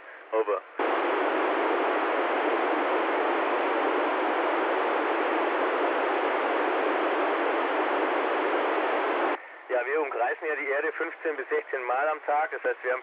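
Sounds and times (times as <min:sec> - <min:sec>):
radio receiver hiss: 0:00.8 - 0:13.0.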